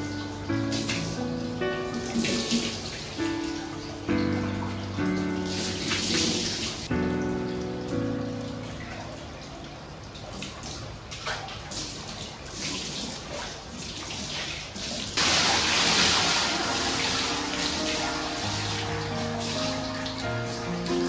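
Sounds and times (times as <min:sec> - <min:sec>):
rush of pouring water: 0:00.0 - 0:07.5, 0:08.2 - 0:21.0
water splashing lightly: 0:02.0 - 0:04.4, 0:05.0 - 0:06.9, 0:07.9 - 0:21.0.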